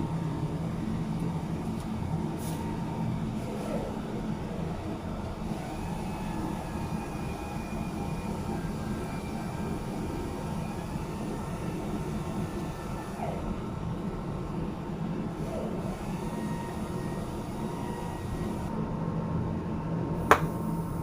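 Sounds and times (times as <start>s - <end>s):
machinery drone with low hum: 0.0s - 21.0s.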